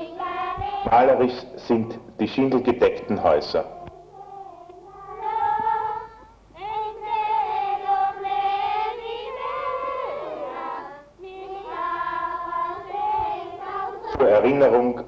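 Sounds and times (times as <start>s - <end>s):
high voices singing in harmony: 0.0s - 1.5s, 3.3s - 15.0s.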